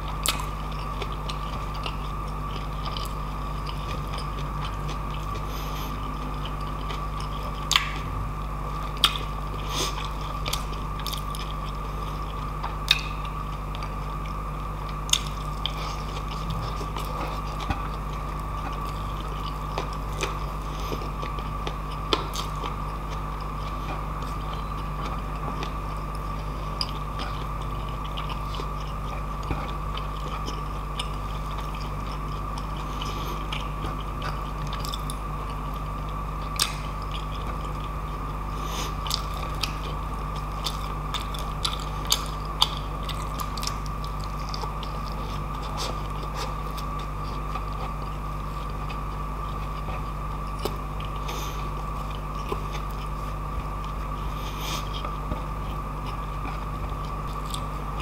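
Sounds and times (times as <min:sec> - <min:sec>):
chewing and mouth clicks: 0:00.0 - 0:08.2, 0:08.8 - 0:58.0
background hum: 0:00.0 - 0:58.0.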